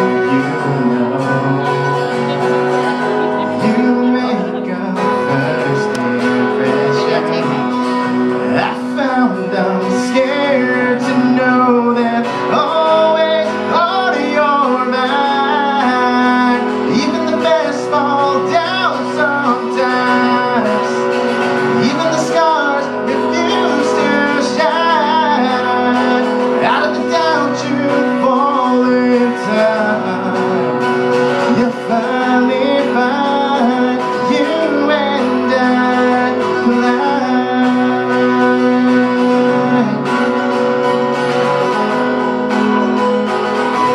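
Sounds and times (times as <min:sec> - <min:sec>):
acoustic guitar strumming: 0:00.0 - 0:43.9
person singing: 0:00.0 - 0:43.9.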